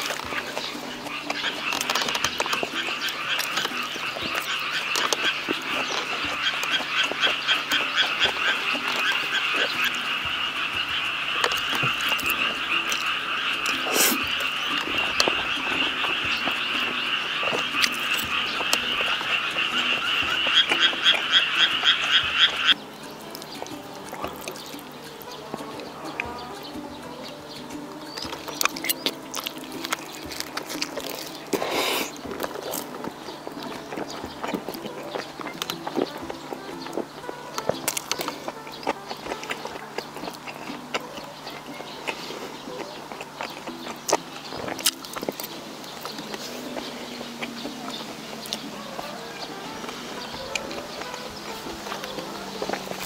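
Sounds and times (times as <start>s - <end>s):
frogs croaking in chorus: 0.0s - 53.0s.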